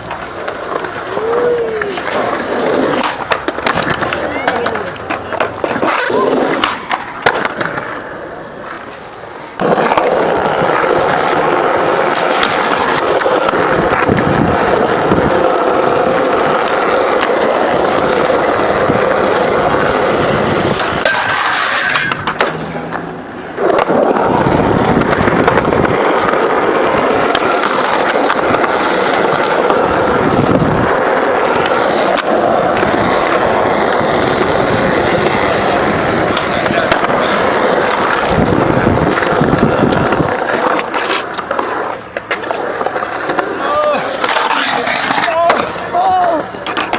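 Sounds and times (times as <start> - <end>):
skateboard clacking on landing: 0.0 - 8.8, 9.5 - 46.9
skateboard wheels rolling on concrete: 0.0 - 46.9.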